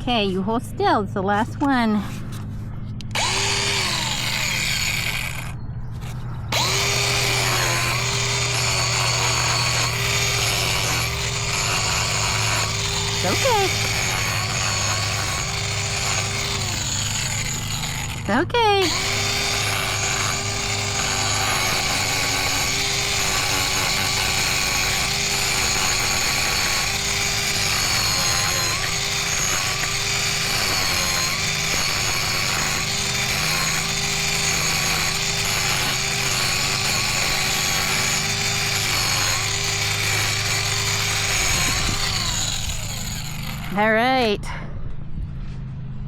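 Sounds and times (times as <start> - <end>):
angle grinder grinding hoof: 0.0 - 44.6.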